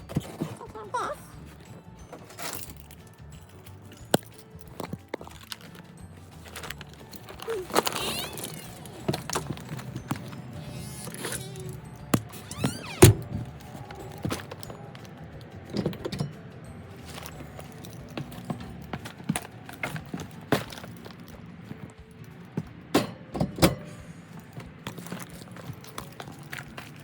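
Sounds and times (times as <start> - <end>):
household items clattering: 0.0 - 27.0.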